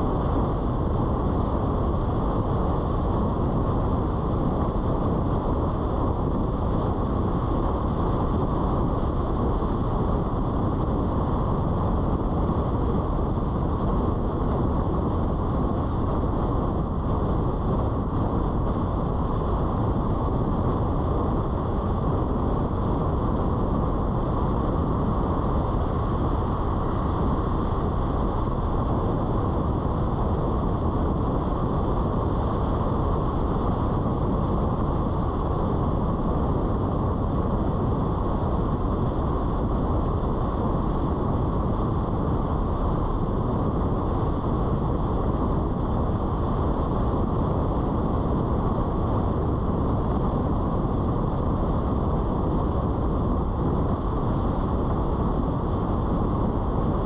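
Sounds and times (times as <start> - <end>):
muffled car road and wind noise: 0.0 - 57.0.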